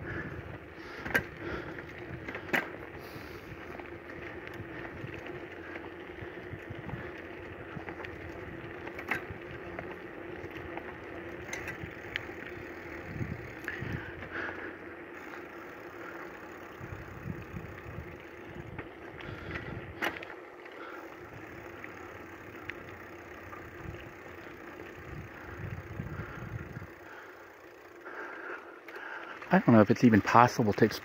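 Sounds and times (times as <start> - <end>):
vehicle engine and road drone: 0.0 - 29.6.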